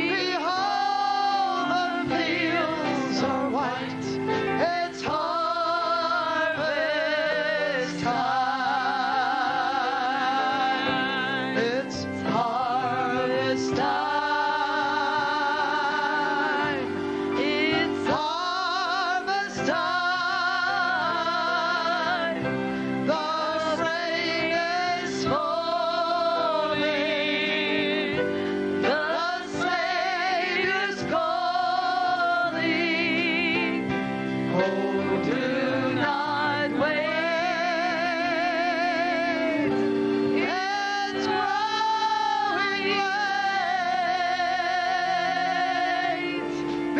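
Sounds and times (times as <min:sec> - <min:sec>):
sustained steady chords: 0:00.0 - 0:46.9.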